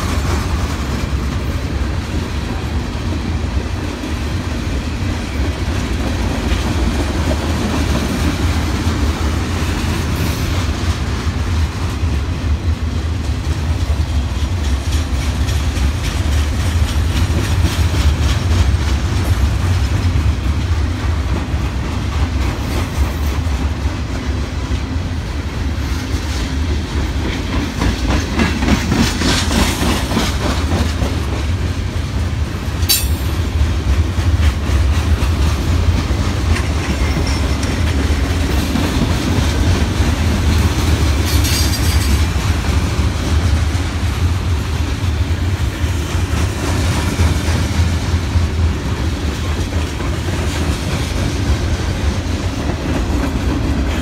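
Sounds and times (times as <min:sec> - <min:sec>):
freight train rolling past: 0:00.0 - 0:54.0
wheels clacking over rails: 0:00.0 - 0:54.0.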